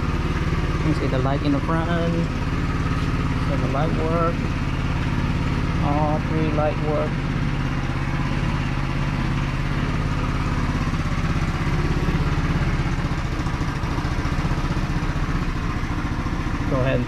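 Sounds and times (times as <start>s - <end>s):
scooter engine idling: 0.0s - 17.0s.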